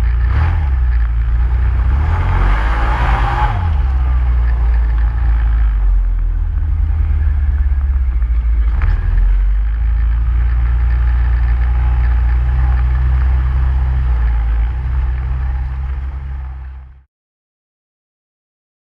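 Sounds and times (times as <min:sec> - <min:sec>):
vehicle engine rumbling: 0:00.0 - 0:17.1.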